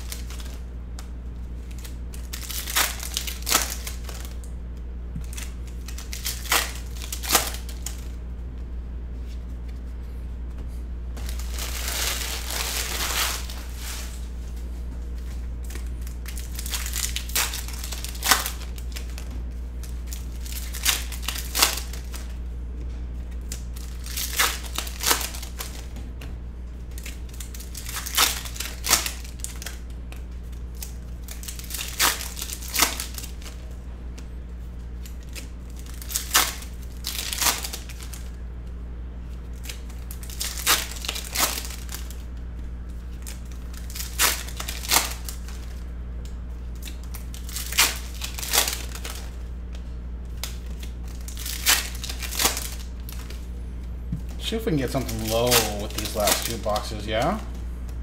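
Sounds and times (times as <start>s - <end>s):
foil wrappers crinkling and tearing: 0.0s - 0.7s, 1.5s - 4.5s, 5.2s - 8.2s, 11.2s - 22.4s, 23.2s - 26.0s, 26.7s - 33.8s, 35.0s - 38.4s, 39.5s - 45.9s, 46.7s - 53.5s, 54.3s - 57.4s
low hum: 0.0s - 58.0s.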